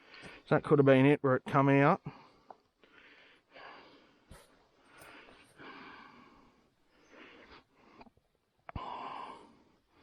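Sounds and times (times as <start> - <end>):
person breathing: 0.0 - 0.5, 2.0 - 10.0.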